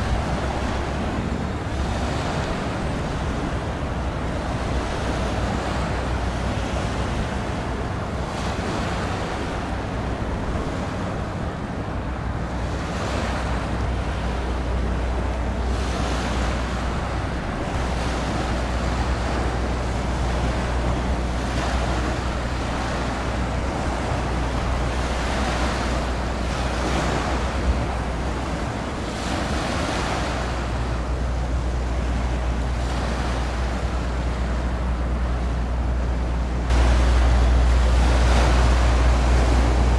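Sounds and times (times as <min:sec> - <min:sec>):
steady low rumble: 0:00.0 - 0:39.9
waves washing: 0:00.0 - 0:39.9
wind gusting over microphone: 0:00.0 - 0:39.9.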